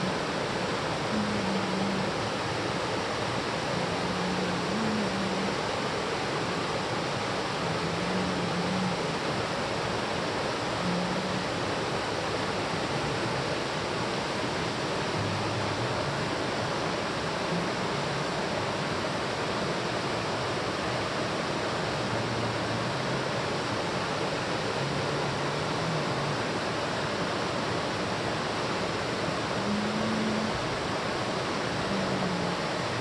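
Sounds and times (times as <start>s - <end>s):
stream water rushing over rocks: 0.0s - 33.0s.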